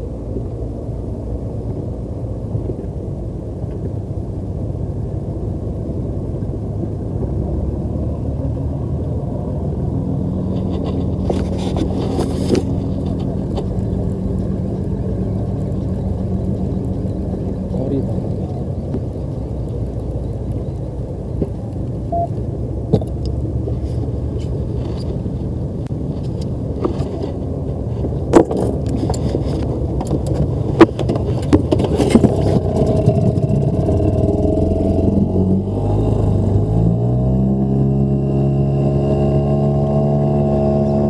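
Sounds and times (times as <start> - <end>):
boat engine rumbling: 0.0 - 41.0.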